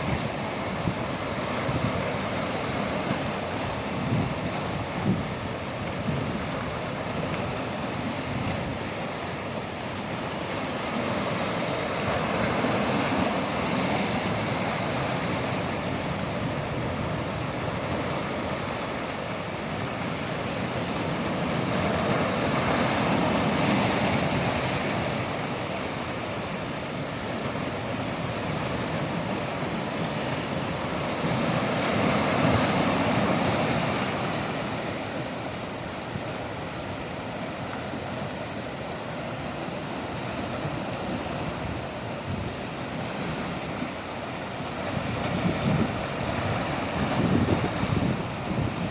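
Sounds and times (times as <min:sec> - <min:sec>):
ocean waves surging: 0:00.0 - 0:48.9.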